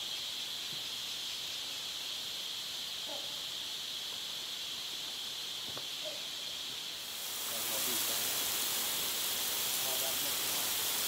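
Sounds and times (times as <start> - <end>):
rainforest insects droning: 0.0 - 11.0.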